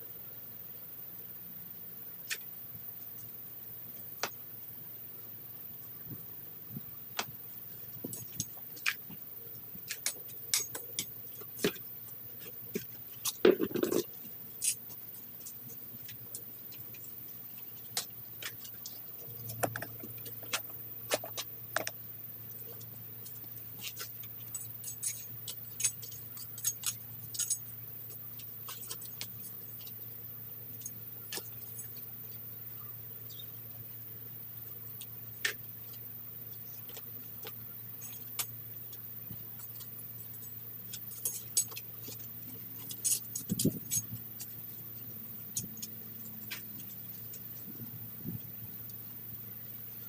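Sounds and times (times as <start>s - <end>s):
crunching rustle: 7.7s - 33.5s, 34.7s - 49.1s.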